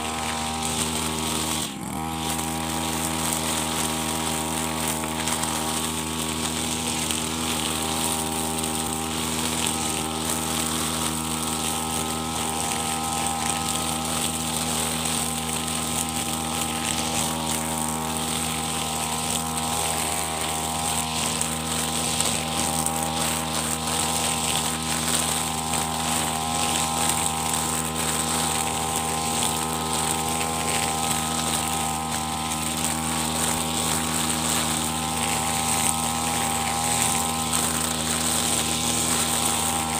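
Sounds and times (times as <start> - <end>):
brush cutter engine: 0.0 - 39.9
hiss of spinning trimmer line: 0.0 - 39.9.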